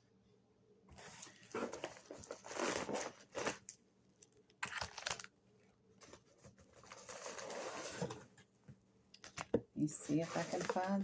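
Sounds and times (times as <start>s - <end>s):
packaging crinkling and rustling: 1.0s - 8.4s, 9.2s - 11.0s.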